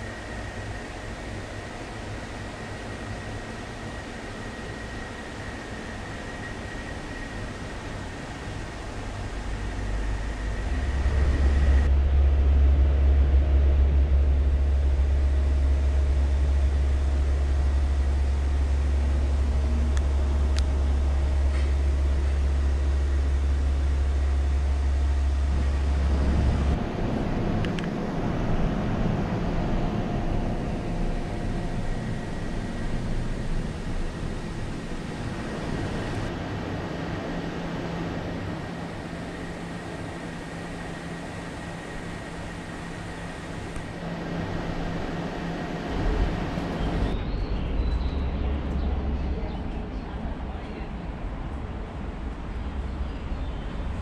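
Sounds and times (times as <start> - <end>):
loud low rumble: 7.8 - 54.0.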